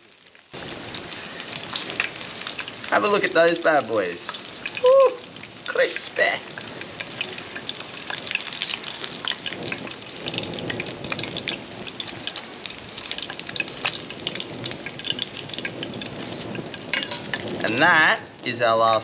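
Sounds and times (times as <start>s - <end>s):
fish deep-frying in hot oil: 0.0s - 19.0s.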